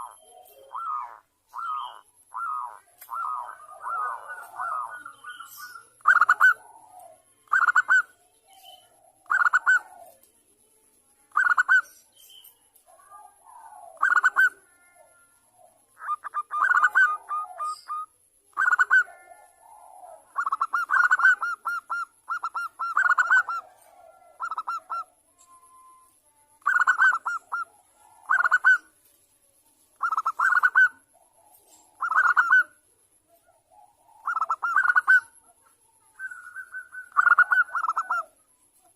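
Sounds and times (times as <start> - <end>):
dove cooing: 0.0 - 10.3, 12.9 - 26.0, 26.6 - 29.0, 30.0 - 38.4.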